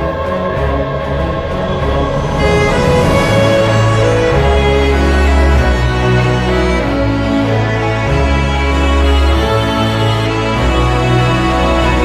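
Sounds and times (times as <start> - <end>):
slow held music chords: 0.0 - 12.0.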